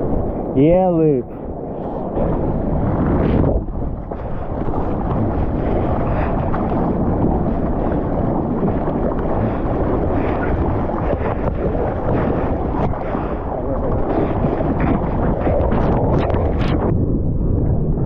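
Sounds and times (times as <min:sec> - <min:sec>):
moving seawater: 0:00.0 - 0:18.0
wind buffeting microphone: 0:00.0 - 0:18.0.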